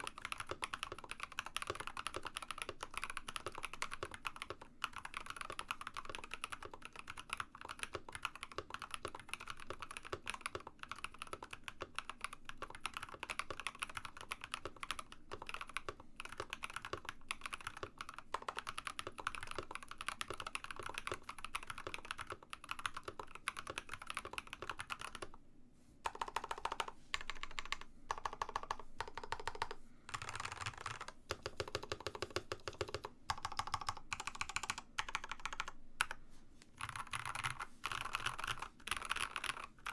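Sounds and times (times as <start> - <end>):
fast typing on mechanical keyboard: 0.0 - 25.4, 26.1 - 36.2, 36.8 - 39.9.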